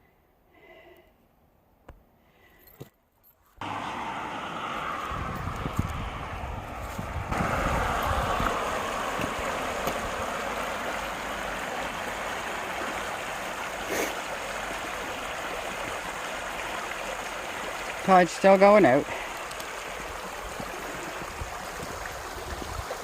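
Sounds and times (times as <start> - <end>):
water rushing: 3.6 - 23.0.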